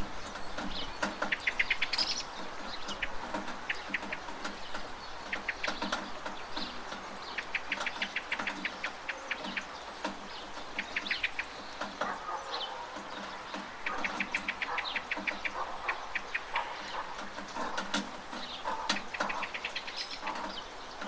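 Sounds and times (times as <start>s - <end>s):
birds chirping: 0.0s - 21.0s
steady heavy rain: 0.0s - 21.0s.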